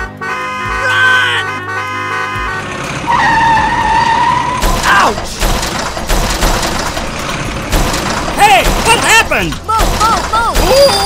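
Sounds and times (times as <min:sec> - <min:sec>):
background music: 0:00.0 - 0:11.0
rumbling truck engine: 0:00.0 - 0:11.0.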